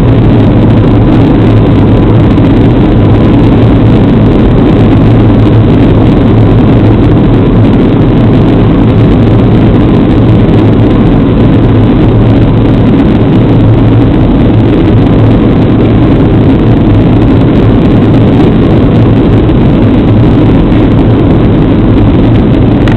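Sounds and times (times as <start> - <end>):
faint steady whine: 0.0 - 22.9
low drone of jet engines: 0.0 - 22.9.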